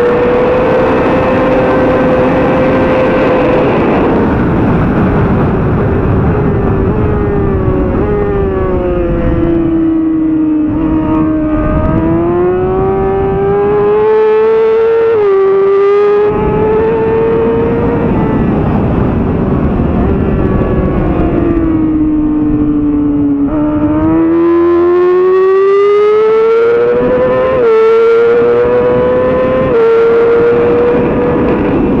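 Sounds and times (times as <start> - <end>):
motorcycle engine at racing speed: 0.0 - 32.0.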